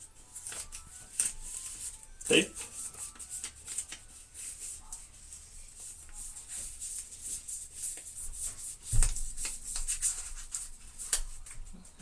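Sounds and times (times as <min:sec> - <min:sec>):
paper rustling on spool: 0:00.1 - 0:11.9.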